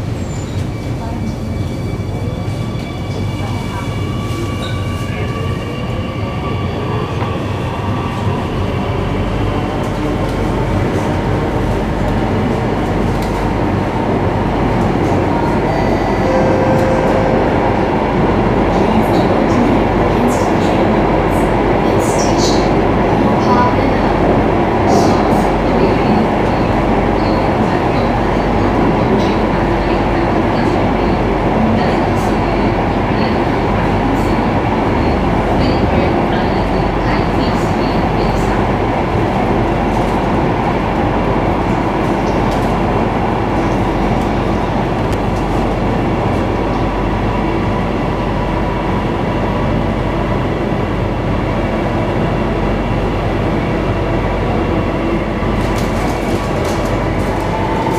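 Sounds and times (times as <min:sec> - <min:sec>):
electric train rumbling at speed: 0:00.0 - 0:57.9.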